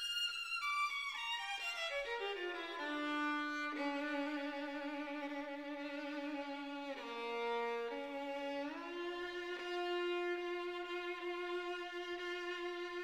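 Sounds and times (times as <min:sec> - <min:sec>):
violin playing slow notes: 0:00.0 - 0:13.0.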